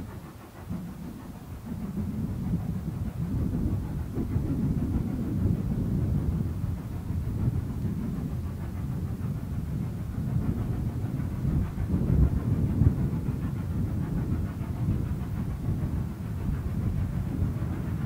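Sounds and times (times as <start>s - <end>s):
steam locomotive rumbling: 0.0s - 18.0s.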